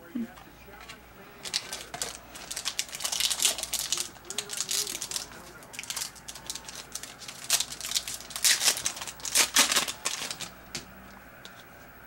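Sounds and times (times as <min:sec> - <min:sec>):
trading cards rustling and scraping: 0:00.4 - 0:11.9.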